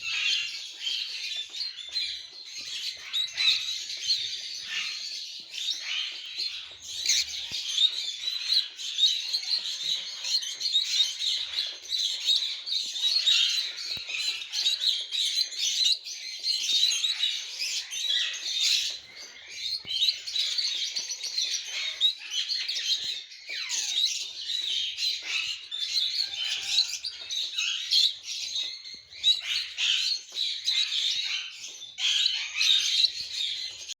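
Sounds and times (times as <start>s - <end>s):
flock of birds chirping: 0.0s - 34.0s.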